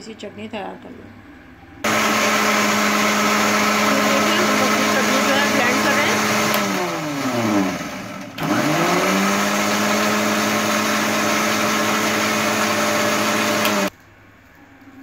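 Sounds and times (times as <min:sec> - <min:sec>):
mixer grinder motor spinning: 0:01.8 - 0:13.9.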